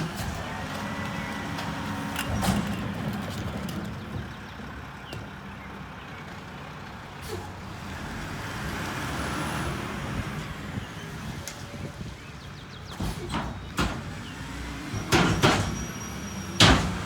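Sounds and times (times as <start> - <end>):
garbage truck engine rumbling: 0.0 - 17.0.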